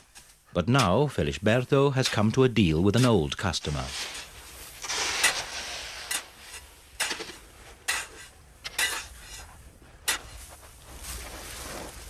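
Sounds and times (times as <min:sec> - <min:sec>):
shovels scraping into salt: 0:01.3 - 0:12.0.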